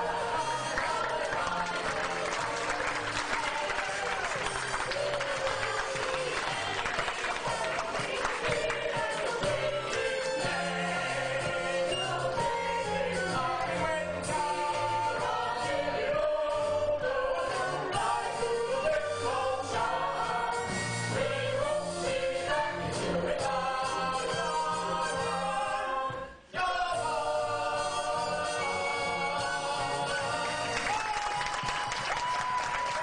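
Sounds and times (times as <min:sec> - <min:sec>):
group of voices singing: 0:00.0 - 0:30.9
musical accompaniment: 0:00.0 - 0:33.0.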